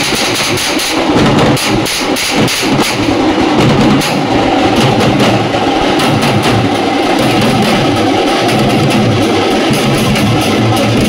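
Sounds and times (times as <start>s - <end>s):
frame drums beaten with sticks: 0.0s - 11.0s.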